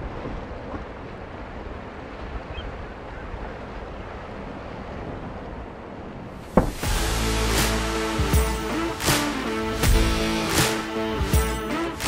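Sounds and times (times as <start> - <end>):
open water: 0.0 - 12.0.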